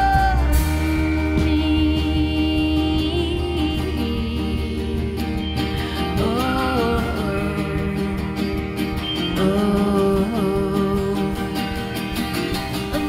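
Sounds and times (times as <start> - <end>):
live band playing: 0.0 - 13.0
person singing: 0.0 - 13.0.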